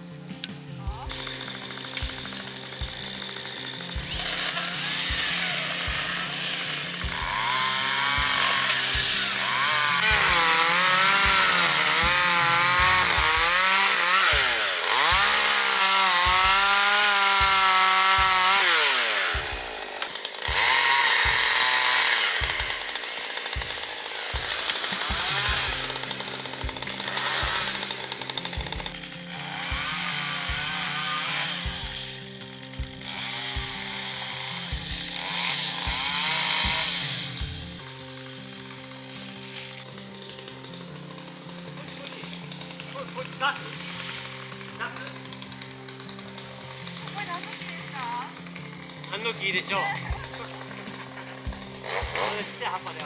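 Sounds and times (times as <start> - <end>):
background music with low beat: 0.0 - 47.0, 48.2 - 53.0
chainsaw cutting wood: 0.0 - 53.0.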